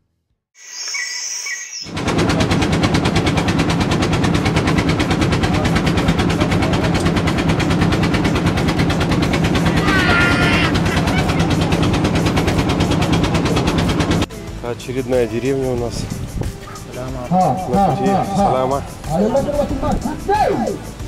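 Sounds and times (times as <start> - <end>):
boat engine running: 1.9 - 21.0.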